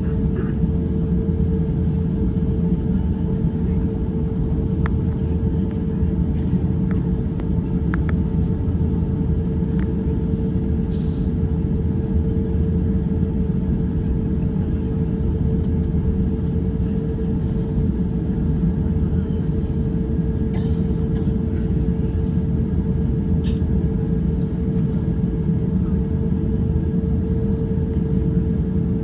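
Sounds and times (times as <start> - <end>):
aircraft cabin engine rumble: 0.0 - 29.0
steady hum: 0.0 - 29.0.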